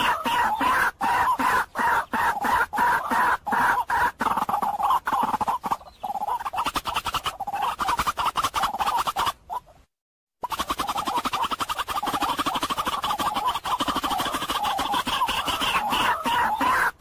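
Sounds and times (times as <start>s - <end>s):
waterhen calling: 0.0s - 9.8s, 10.4s - 17.0s.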